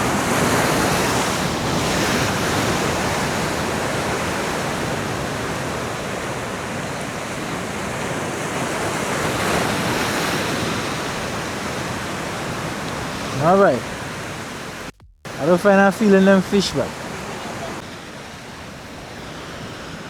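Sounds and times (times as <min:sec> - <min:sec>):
sea surf washing against rocks: 0:00.0 - 0:20.0.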